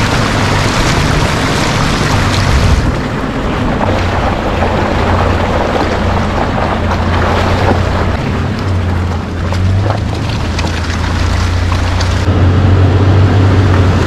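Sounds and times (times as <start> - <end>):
car engine running: 0.0 - 14.0
rushing noise: 0.0 - 14.0.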